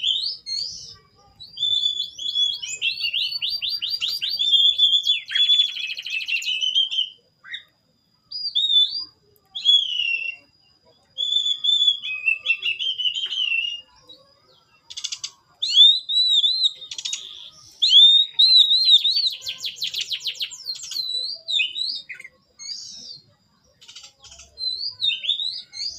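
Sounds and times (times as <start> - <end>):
songbirds singing: 0.0 - 25.9.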